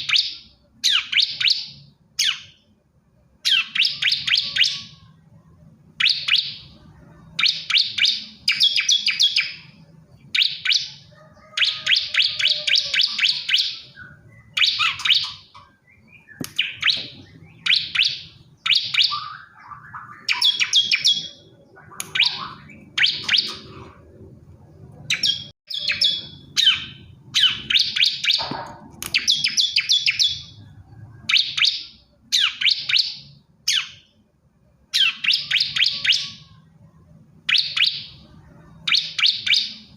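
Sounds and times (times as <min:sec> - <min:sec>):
bird trilled chirping: 0:00.0 - 0:02.8, 0:03.4 - 0:05.1, 0:06.0 - 0:24.2, 0:24.9 - 0:34.2, 0:34.9 - 0:36.6, 0:37.5 - 0:39.9.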